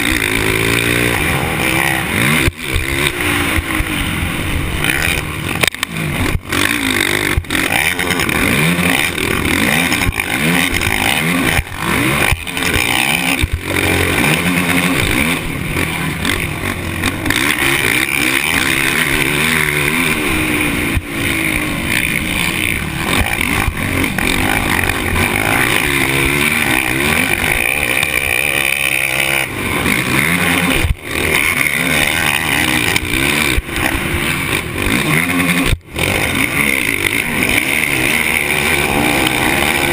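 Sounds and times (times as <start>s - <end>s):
dirt bike engine revving: 0.0s - 39.9s
steady rushing noise: 0.0s - 39.9s.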